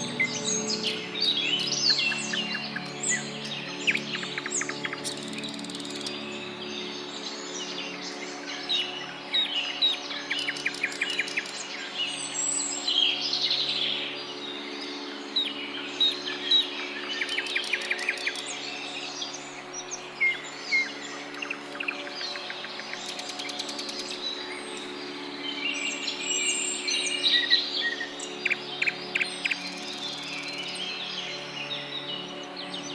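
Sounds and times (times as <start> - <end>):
birds chirping and trilling: 0.0 - 32.9.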